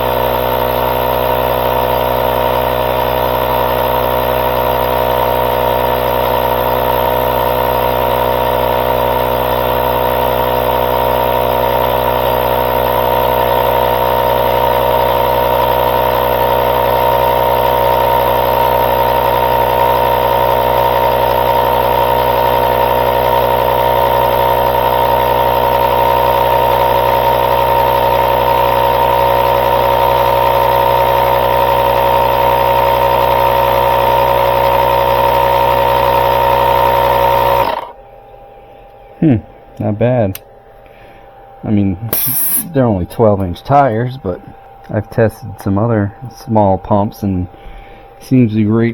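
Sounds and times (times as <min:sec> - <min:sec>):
air compressor running: 0:00.0 - 0:48.9.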